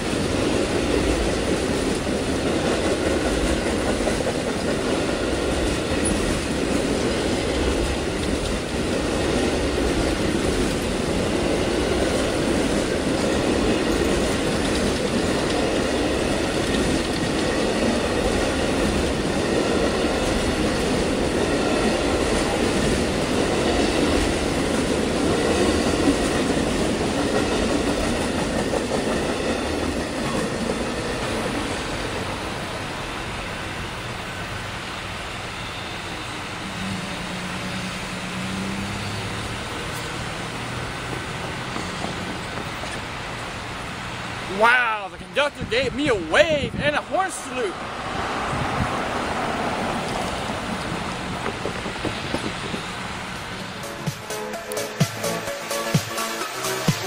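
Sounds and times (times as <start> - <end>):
steel wheels on rails: 0.0 - 57.0.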